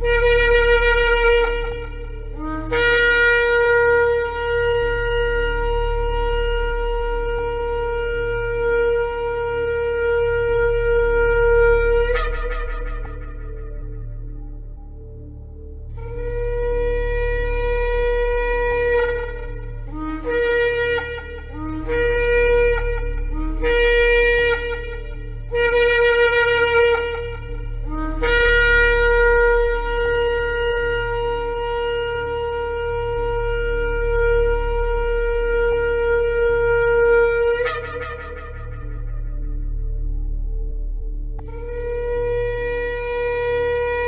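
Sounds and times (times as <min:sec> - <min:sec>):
low hum: 0:00.0 - 0:44.0
shofar blasts: 0:00.0 - 0:44.0.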